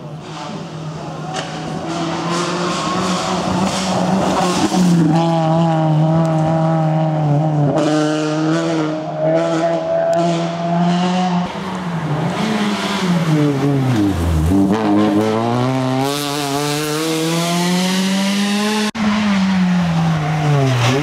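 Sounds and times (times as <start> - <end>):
rally car engine passing at speed: 0.1 - 21.0.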